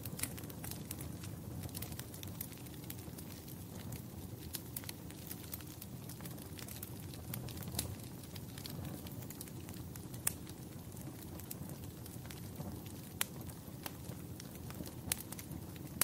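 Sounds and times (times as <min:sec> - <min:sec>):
fire crackling and popping: 0:00.0 - 0:16.0
log fire rumbling: 0:00.0 - 0:16.0.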